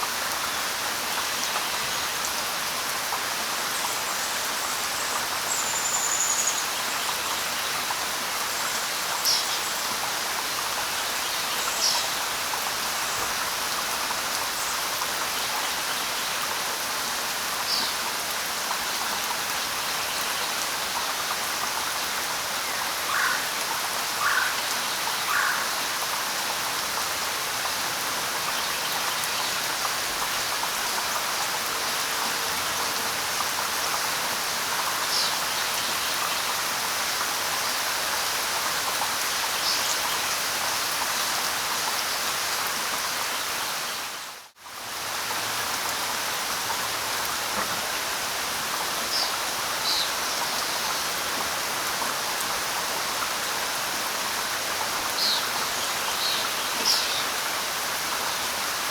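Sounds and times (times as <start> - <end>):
light rain pattering on leaves: 0.0 - 58.9.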